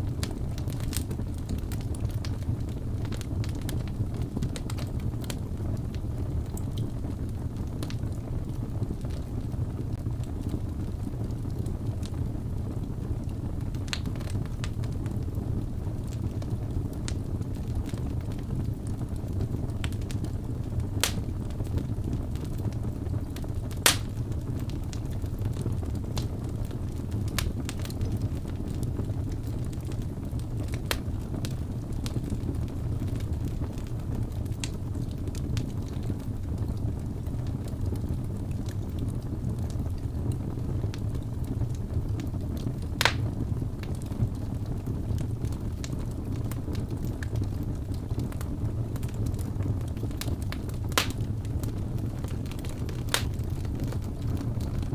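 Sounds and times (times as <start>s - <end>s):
fire low rumble: 0.0s - 54.9s
wood fire crackling and popping: 0.0s - 54.9s.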